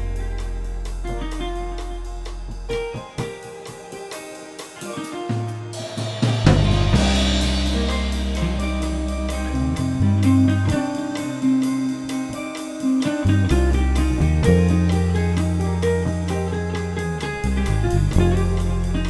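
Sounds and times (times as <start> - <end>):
steady bass notes: 0.0 - 3.0, 5.8 - 19.0
band music: 0.0 - 19.0
cymbal crash: 0.0 - 19.0
ticking beat: 0.0 - 19.0.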